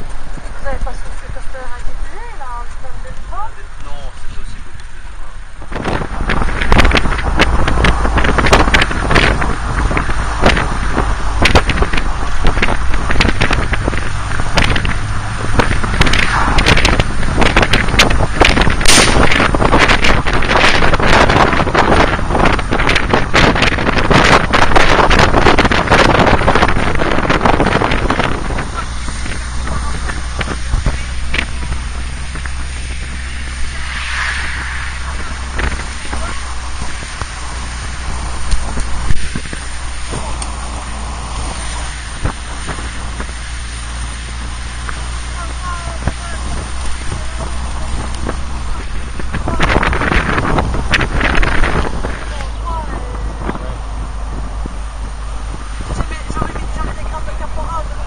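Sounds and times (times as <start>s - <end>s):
engine and tyres rumbling: 0.0s - 58.0s
hiss rush: 0.0s - 58.0s
wind buffeting microphone: 0.0s - 58.0s.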